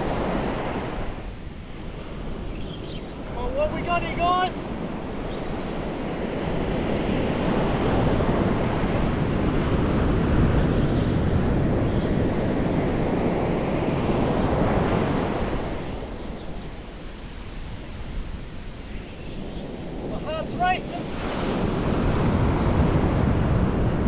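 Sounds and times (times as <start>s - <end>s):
ocean surf on beach: 0.0s - 24.0s
wind on microphone: 0.0s - 24.0s.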